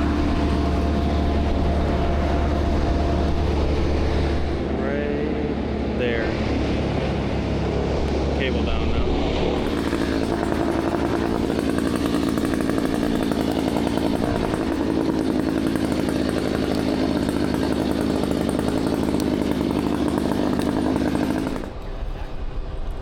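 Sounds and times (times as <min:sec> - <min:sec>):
motor running at high revs: 0:00.0 - 0:21.8.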